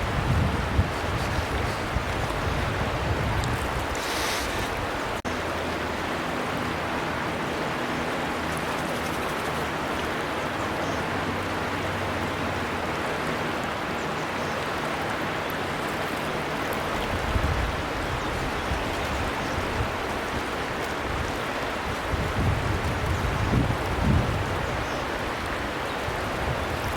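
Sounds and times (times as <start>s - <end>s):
river water flowing over rocks: 0.0s - 26.9s.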